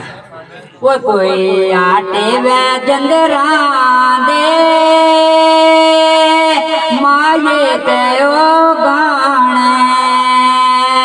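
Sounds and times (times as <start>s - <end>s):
man singing into a microphone: 0.8s - 11.0s.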